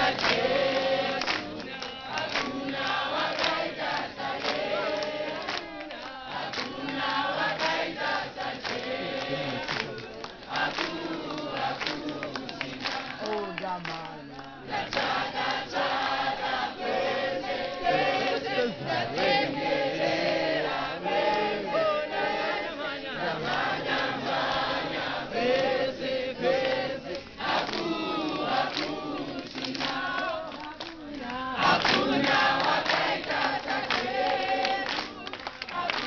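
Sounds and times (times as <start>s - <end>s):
crowd singing and chanting: 0.0s - 36.0s
people clapping: 0.0s - 36.0s.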